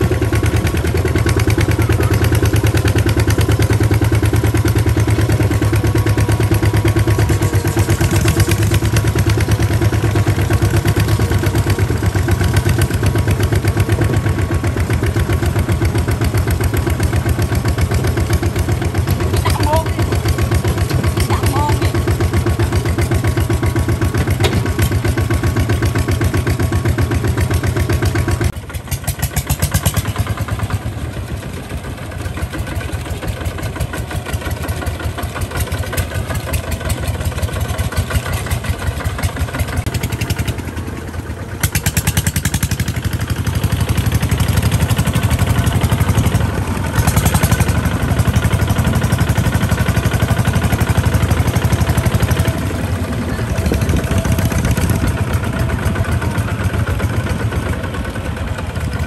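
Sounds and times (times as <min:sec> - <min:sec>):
diesel tractor engines chugging: 0:00.0 - 0:59.0.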